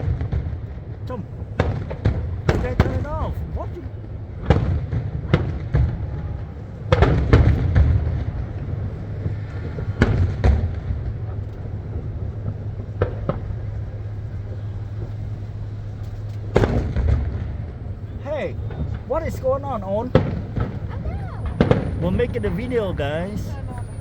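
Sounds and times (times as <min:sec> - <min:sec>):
fireworks booming: 0:00.0 - 0:24.0.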